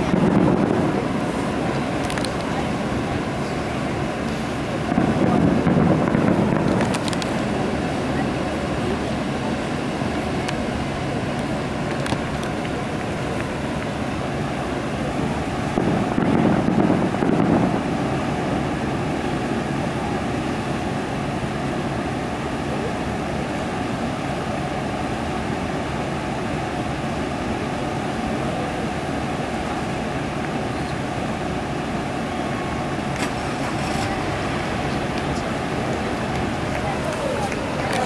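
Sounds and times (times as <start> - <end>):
distant firework rumble: 0.0 - 38.0
steady background noise: 0.0 - 38.0.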